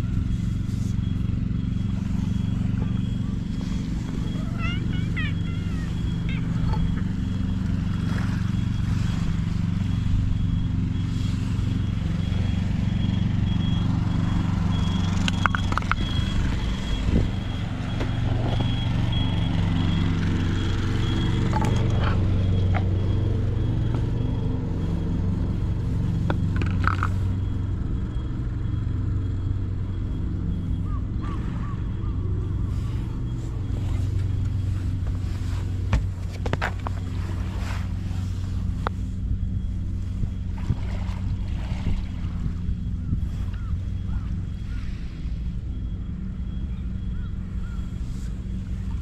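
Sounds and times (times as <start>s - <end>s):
engine running steadily: 0.0s - 49.0s.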